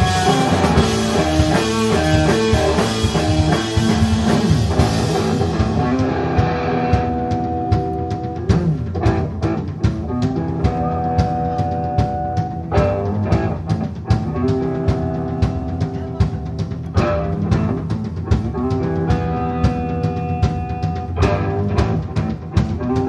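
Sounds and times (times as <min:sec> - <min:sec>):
bass: 0:00.0 - 0:23.0
distorted guitar chords: 0:00.0 - 0:23.0
drum hits: 0:00.0 - 0:23.0.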